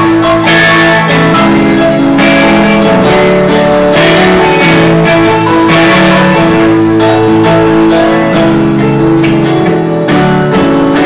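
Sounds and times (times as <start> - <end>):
strummed guitar music: 0.0 - 11.0.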